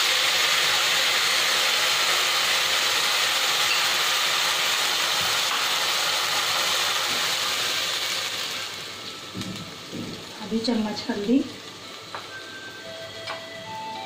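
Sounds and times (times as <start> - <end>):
gravy paste sizzling in hot oil: 0.0 - 13.3.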